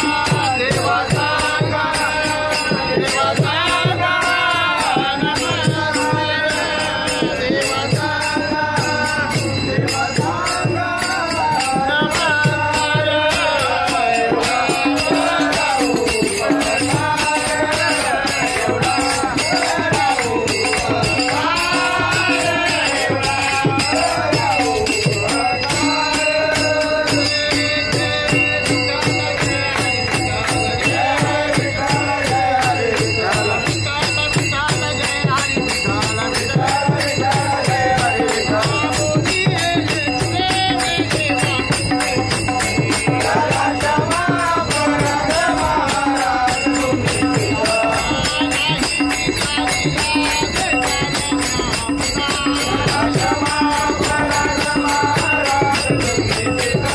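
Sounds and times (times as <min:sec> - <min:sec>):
men singing together: 0:00.0 - 0:56.9.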